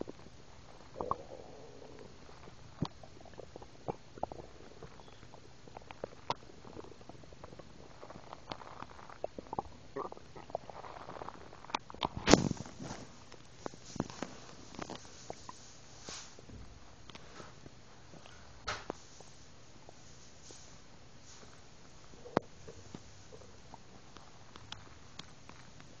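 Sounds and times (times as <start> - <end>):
stomach gurgling: 0.0 - 20.1, 21.4 - 26.0.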